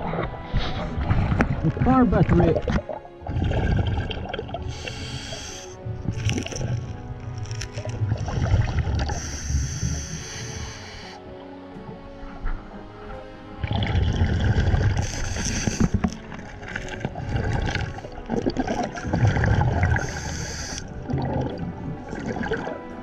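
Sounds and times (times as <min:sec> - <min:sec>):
underwater regulator bubbling: 0:00.0 - 0:11.2, 0:13.6 - 0:22.8
faint background music: 0:00.0 - 0:23.0.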